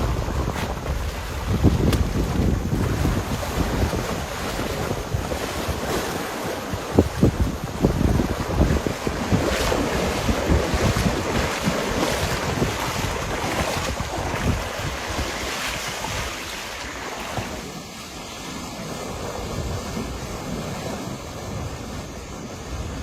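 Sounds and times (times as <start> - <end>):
rushing water: 0.0 - 23.0
wind buffeting microphone: 0.0 - 23.0.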